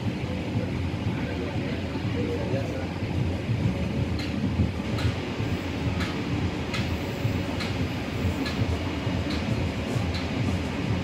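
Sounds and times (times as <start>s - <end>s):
train rumble: 0.0s - 11.0s
wheels clicking on rails: 0.0s - 11.0s.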